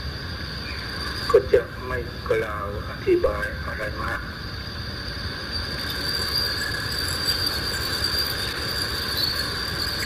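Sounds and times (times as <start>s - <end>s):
high-pitched insect chorus: 0.0s - 10.0s
recording hiss: 0.0s - 10.0s.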